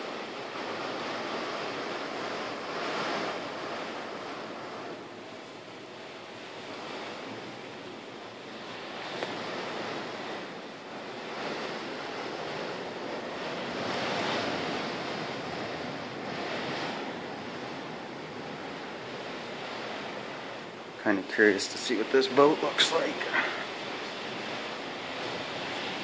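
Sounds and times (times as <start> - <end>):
heavy rain beating on windows: 0.0 - 26.0
storm wind: 0.0 - 26.0.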